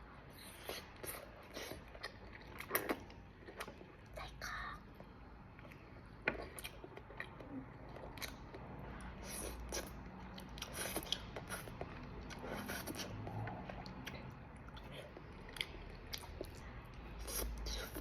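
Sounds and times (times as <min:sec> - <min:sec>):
person chewing noodles: 0:00.3 - 0:04.0, 0:05.6 - 0:18.0.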